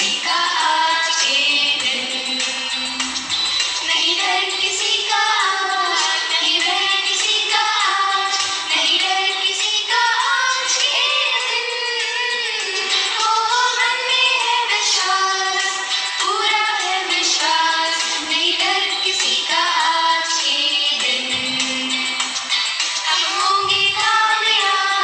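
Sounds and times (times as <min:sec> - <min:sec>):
woman singing: 0:00.0 - 0:03.2, 0:03.8 - 0:22.4, 0:23.0 - 0:25.0.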